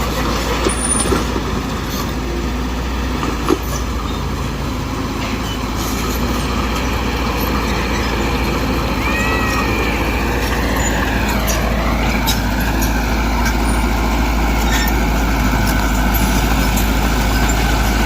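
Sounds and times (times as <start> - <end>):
bulldozer diesel engine running: 0.0 - 18.0
steel tracks clattering: 0.0 - 18.0.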